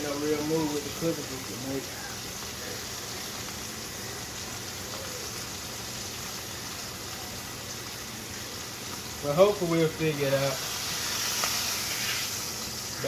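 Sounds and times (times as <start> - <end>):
food sizzling in hot fat: 0.0 - 13.0.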